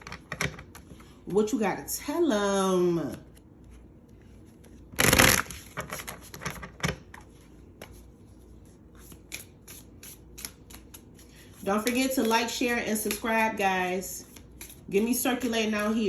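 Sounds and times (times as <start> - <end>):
cards being shuffled: 3.1 - 16.0.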